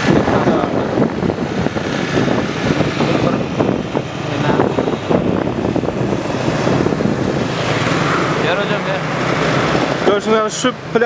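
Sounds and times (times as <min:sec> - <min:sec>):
motor scooter running: 0:00.0 - 0:11.0
wind buffeting microphone: 0:00.0 - 0:11.0.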